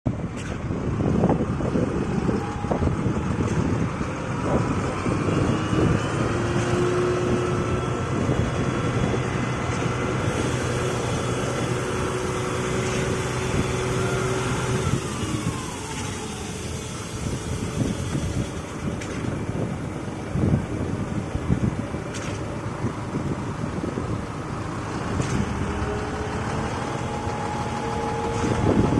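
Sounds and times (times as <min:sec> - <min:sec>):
machine engine hum: 0:00.1 - 0:28.9.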